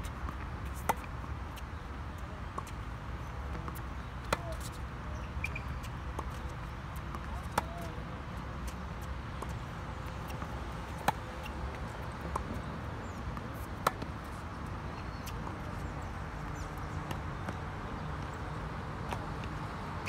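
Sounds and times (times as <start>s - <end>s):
tennis ball bouncing: 0.2s - 1.2s, 2.6s - 2.8s, 3.4s - 18.3s, 19.0s - 19.6s.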